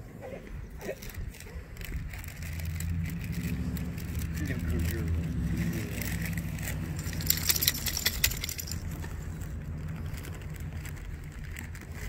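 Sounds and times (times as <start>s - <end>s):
light clicking and jingling: 1.0s - 12.0s.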